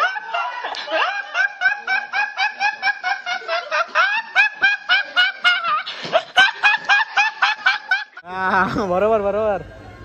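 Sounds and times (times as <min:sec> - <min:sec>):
high-pitched rapid laughter: 0:00.0 - 0:08.2.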